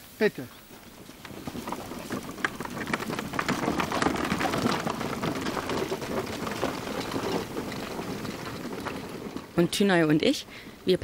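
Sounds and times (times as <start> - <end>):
wheels rolling over gritty dirt: 0.0 - 11.0
footsteps on dirt: 0.5 - 11.0.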